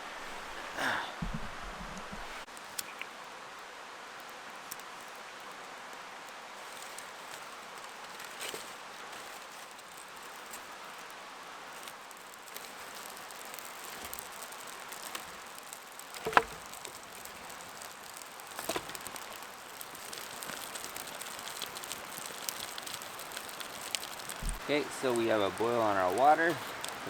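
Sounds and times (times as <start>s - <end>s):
water boiling with steady hiss: 0.0s - 27.0s.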